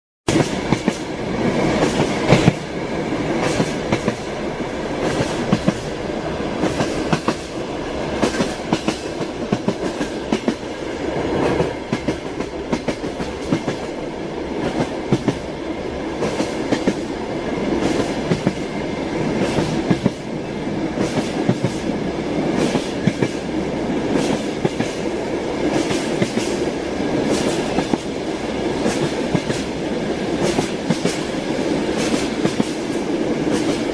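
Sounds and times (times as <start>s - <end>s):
train wheels on track: 0.3s - 33.9s.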